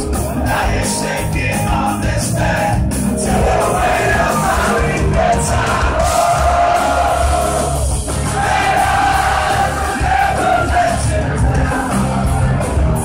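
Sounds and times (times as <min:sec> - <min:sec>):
rock band playing live: 0:00.0 - 0:13.0
crowd yelling along: 0:02.4 - 0:13.0.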